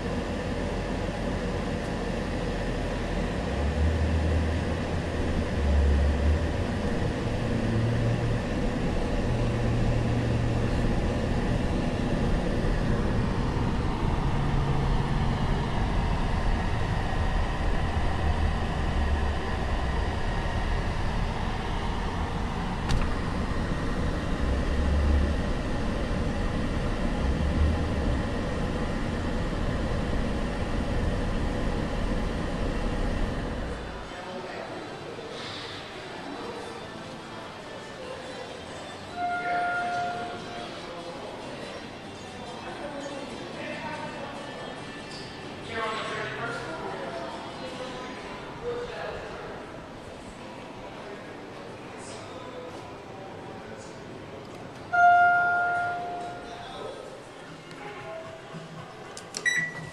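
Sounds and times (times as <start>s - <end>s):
road and engine noise: 0.0s - 59.9s.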